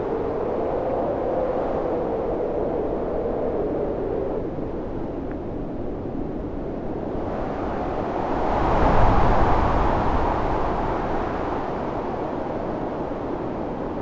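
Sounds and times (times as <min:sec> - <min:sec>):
storm wind blowing: 0:00.0 - 0:14.0.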